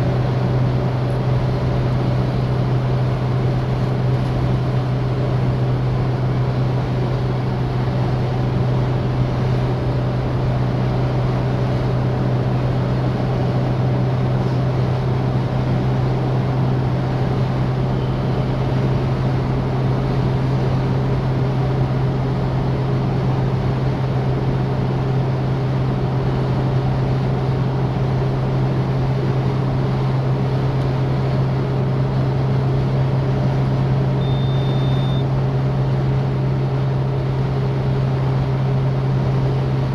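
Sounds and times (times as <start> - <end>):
car engine drone: 0.0 - 39.9
road noise rush: 0.0 - 39.9.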